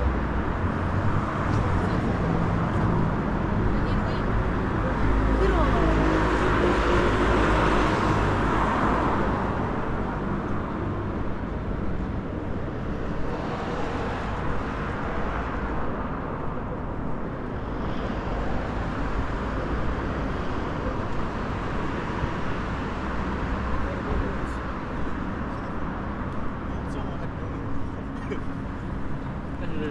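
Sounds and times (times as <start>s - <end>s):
steady hum of road traffic: 0.0s - 29.9s.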